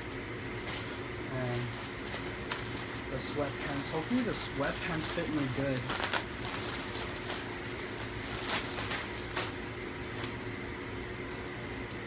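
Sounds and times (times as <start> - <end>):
steady hum: 0.0 - 12.0
plastic bag crinkling: 0.6 - 10.4.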